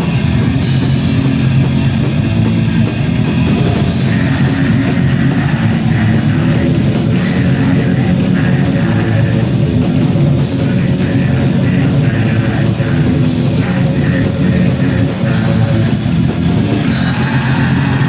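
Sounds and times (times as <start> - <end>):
metal band playing: 0.0 - 18.0.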